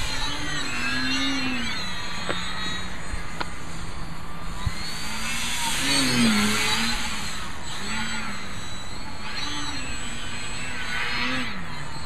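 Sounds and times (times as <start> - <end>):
electric model plane motor buzzing: 0.0 - 12.0.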